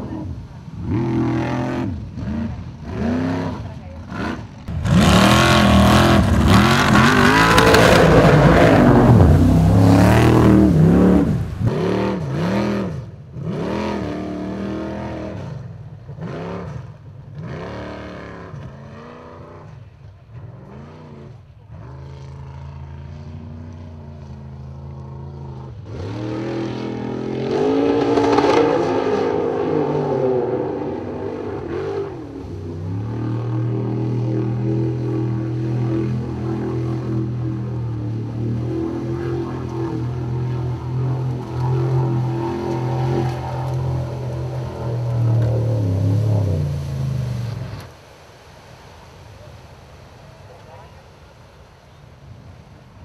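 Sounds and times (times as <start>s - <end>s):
race buggy engine revving: 0.0s - 47.9s.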